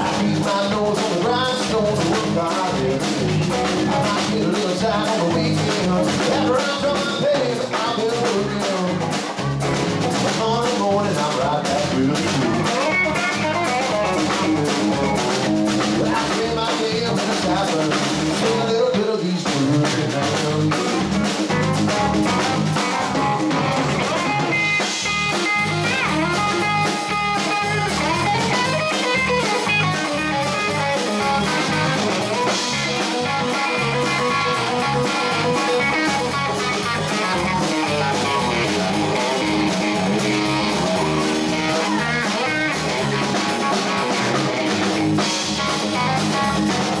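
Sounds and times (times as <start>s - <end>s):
electric guitar bent notes: 0.0s - 47.0s
live rock band playing: 0.0s - 47.0s.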